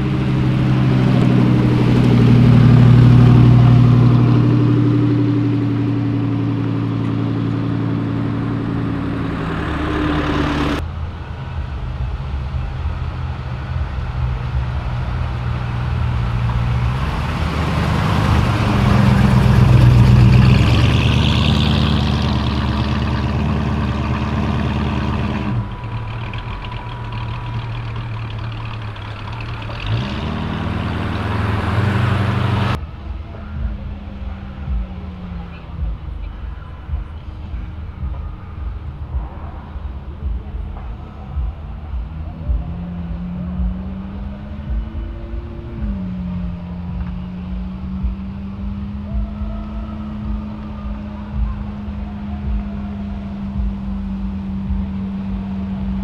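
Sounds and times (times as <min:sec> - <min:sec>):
cars driving slowly past: 0:00.0 - 0:56.0.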